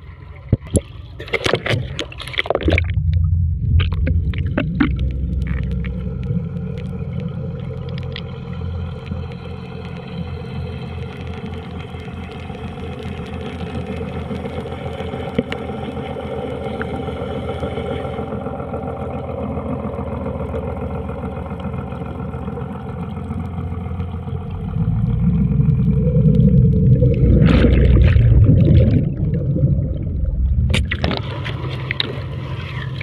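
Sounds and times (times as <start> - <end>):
boat motor rumbling: 0.0 - 33.0.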